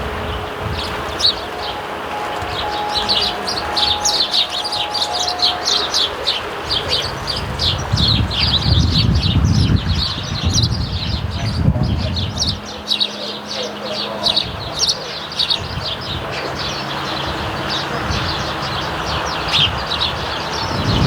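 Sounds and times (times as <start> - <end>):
sparrows chirping: 0.0 - 21.0.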